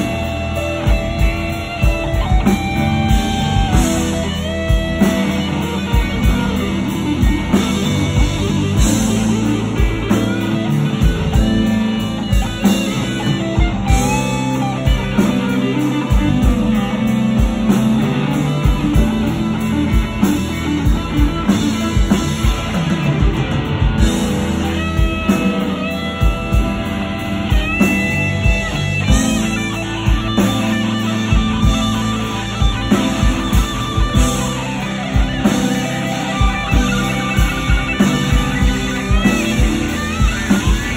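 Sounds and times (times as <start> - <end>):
electric guitar solo: 0.0 - 40.9
steady drum beat: 0.0 - 40.9.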